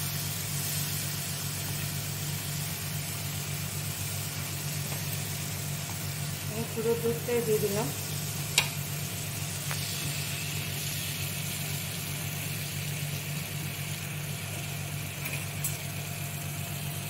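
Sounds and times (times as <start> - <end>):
gravy sizzling in a frying pan: 0.0 - 17.0
steady low hum: 0.0 - 17.0.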